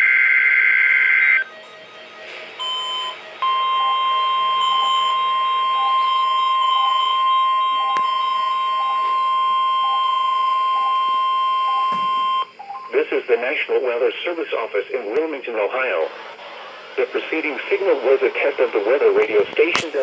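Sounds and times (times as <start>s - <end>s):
steady warning alarm tone: 0.0s - 20.0s.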